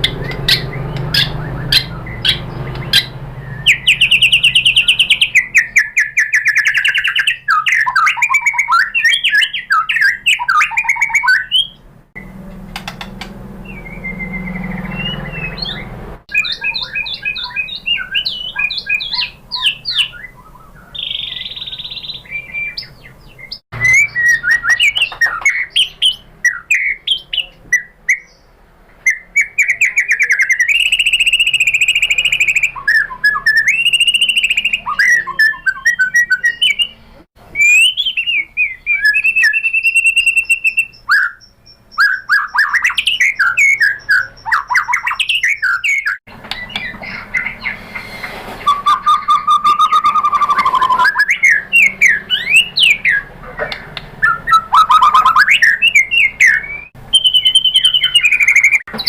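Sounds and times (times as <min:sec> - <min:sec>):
bird singing whistles and trills: 0:00.0 - 0:11.8, 0:13.6 - 0:53.3, 0:54.2 - 0:59.0.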